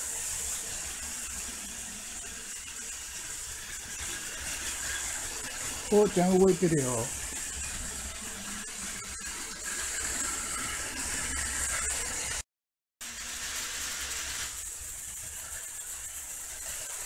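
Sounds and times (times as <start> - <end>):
toy train motor whir: 0.0 - 12.4, 13.0 - 17.0.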